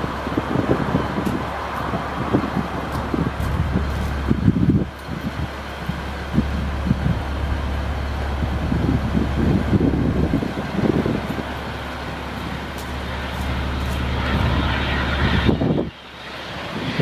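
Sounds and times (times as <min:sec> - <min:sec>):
diesel truck engine running: 0:00.0 - 0:17.0
wind buffeting microphone: 0:00.0 - 0:17.0.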